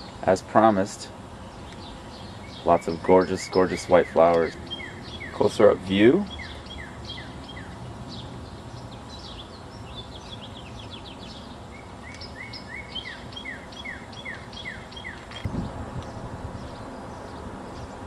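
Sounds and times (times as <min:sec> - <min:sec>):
outdoor background noise: 0:00.0 - 0:18.0
songbirds chirping: 0:00.0 - 0:18.0.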